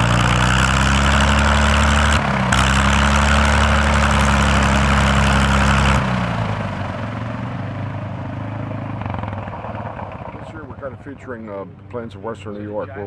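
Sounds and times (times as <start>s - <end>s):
propeller aircraft engine running: 0.0s - 11.9s.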